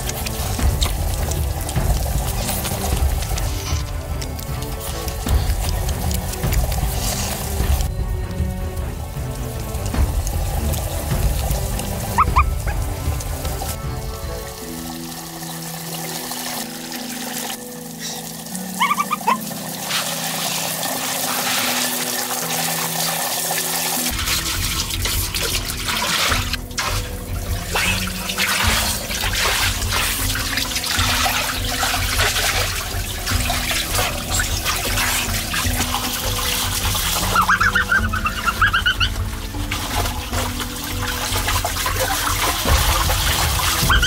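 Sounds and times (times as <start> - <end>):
background music: 0.0 - 44.0
running and splashing water: 0.0 - 44.0.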